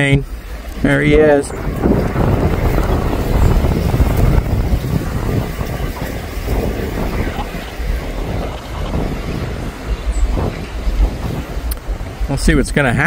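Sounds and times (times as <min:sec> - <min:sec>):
diesel locomotive rumble: 0:00.0 - 0:13.0
wind buffeting microphone: 0:00.0 - 0:13.0.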